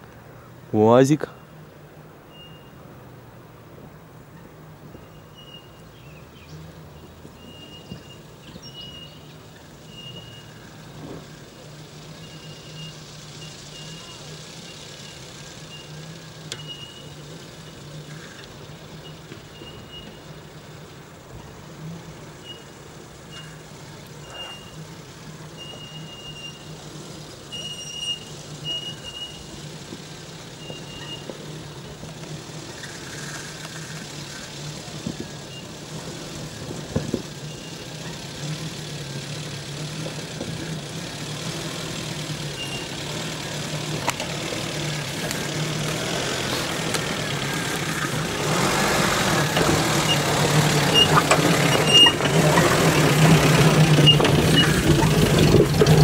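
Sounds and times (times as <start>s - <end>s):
engine running at low revs: 1.6s - 56.0s.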